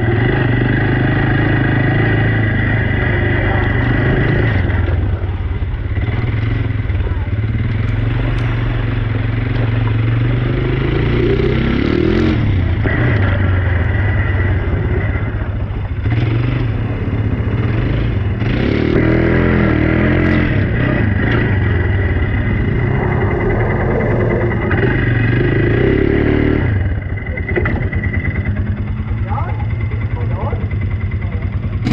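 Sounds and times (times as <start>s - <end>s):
atv engine revving: 0.0s - 31.9s.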